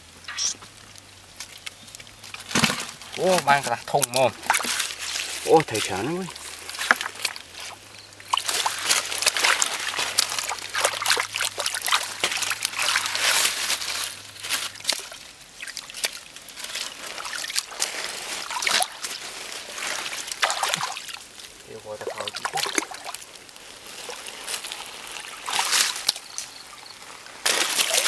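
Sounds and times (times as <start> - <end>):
hands splashing in muddy water: 1.4 - 21.3, 21.9 - 26.2, 27.4 - 28.0.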